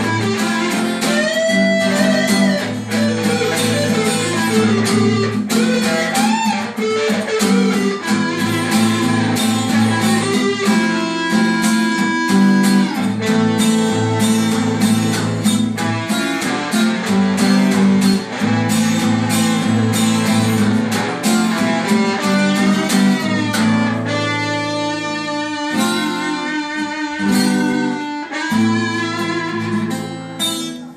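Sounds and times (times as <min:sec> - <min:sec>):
guitar playing: 0:00.0 - 0:30.9.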